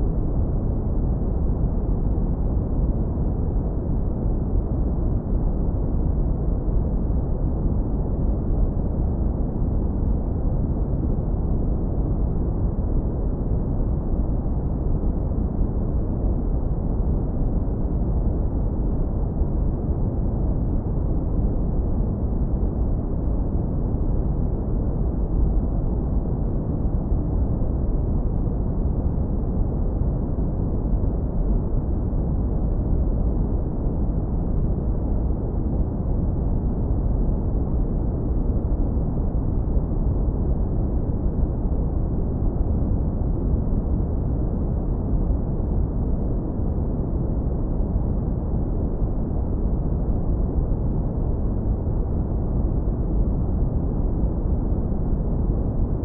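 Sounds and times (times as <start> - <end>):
deep muffled rumble of brown noise: 0.0 - 56.0.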